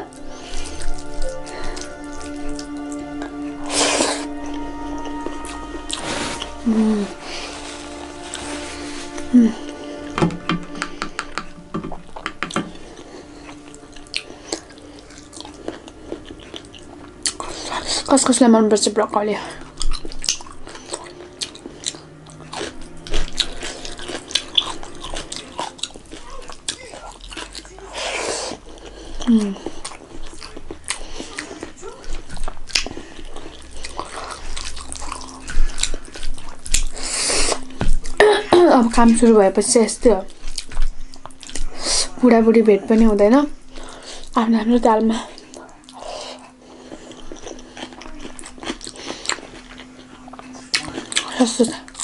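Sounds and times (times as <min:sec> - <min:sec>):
wet chewing and mouth clicks: 0:00.0 - 0:06.6, 0:07.2 - 0:52.0.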